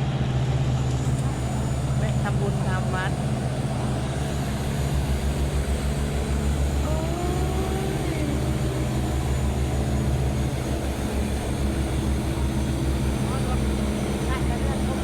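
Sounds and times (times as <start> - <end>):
large engine droning: 0.0 - 15.0.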